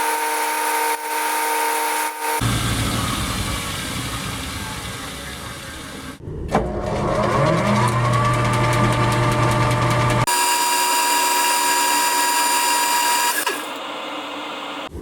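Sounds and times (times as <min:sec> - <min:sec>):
machine tool motor running: 0:00.3 - 0:13.8.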